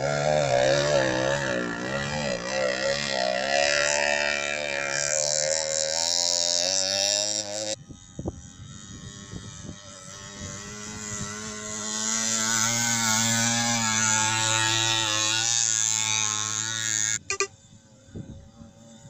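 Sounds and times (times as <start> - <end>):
small motorcycle engine running: 0.0 - 17.5.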